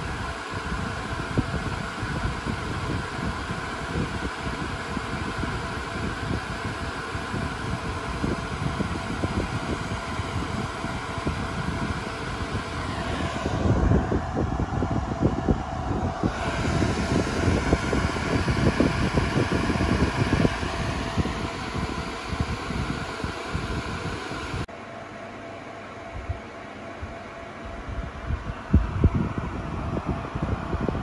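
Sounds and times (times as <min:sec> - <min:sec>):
cooling fans hissing and whining: 0:00.0 - 0:31.0.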